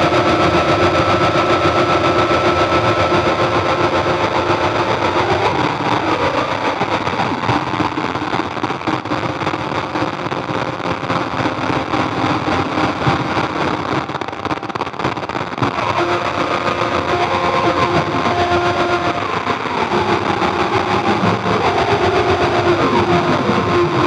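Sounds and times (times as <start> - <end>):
distorted synthesizer noise drone: 0.0 - 24.0.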